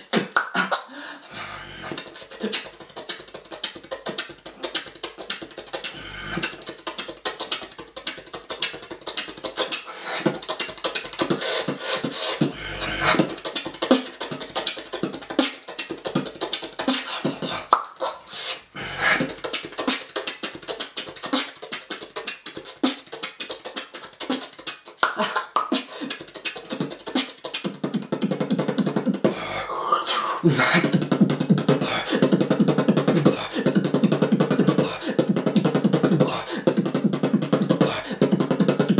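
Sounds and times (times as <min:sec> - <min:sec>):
person beatboxing: 0:00.0 - 0:38.9.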